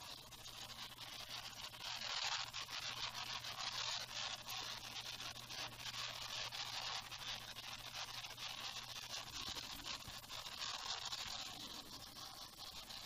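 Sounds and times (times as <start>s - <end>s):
hissing static noise: 0.0s - 13.0s.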